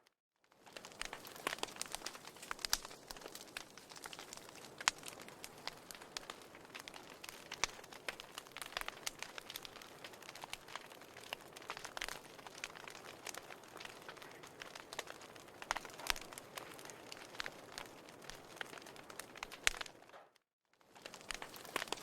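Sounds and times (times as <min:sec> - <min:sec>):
wood fire crackling: 0:00.4 - 0:22.0.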